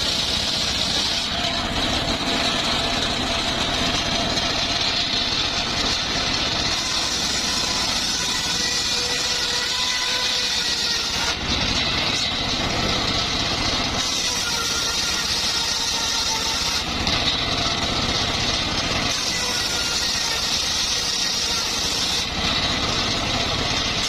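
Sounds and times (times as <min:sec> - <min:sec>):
circular saw running: 0:00.0 - 0:24.0.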